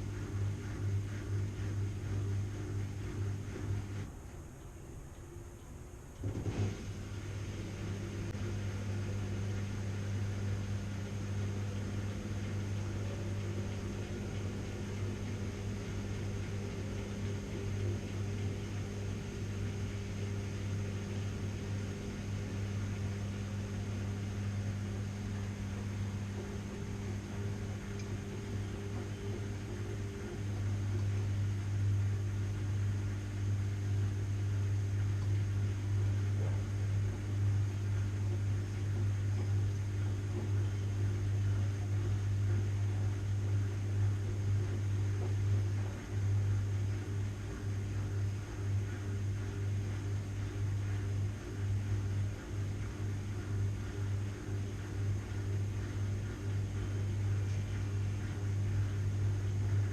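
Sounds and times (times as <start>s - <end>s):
washing machine running: 0.0s - 4.2s, 6.1s - 59.9s.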